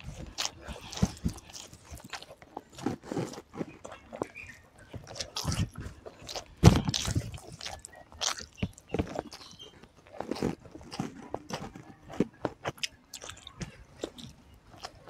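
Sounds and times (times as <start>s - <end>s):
chewing food: 0.0s - 15.0s
fingers squishing rice: 0.0s - 15.0s.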